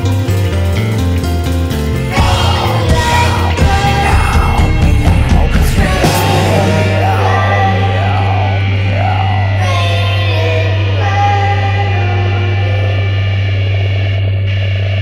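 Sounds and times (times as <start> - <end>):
low amplifier hum: 2.0 - 15.0
sustained electric guitar tones: 2.0 - 15.0.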